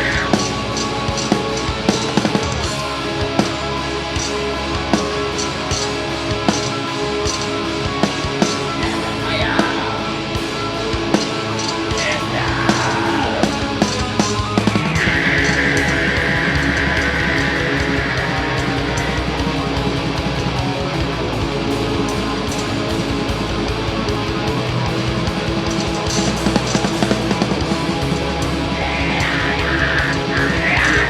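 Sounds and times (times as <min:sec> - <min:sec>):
heavy metal band playing: 0:00.0 - 0:31.0
sliding guitar pitches: 0:00.0 - 0:31.0.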